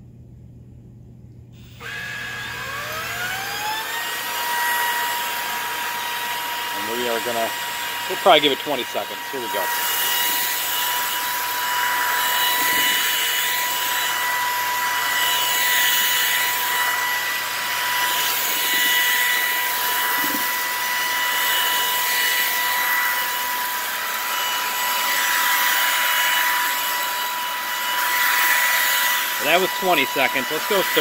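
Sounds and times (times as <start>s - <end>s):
vacuum cleaner on carpet: 1.6s - 31.0s.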